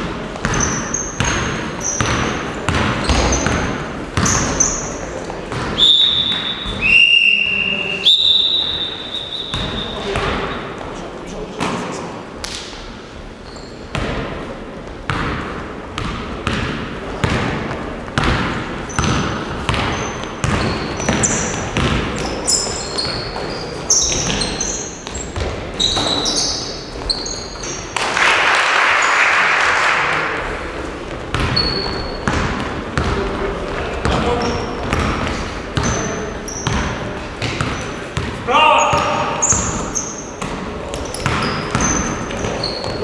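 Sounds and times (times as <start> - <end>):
basketballs bouncing on gym floor: 0.0 - 10.9, 13.5 - 28.2, 31.1 - 43.0
sneakers squeaking: 0.0 - 28.0, 31.0 - 43.0.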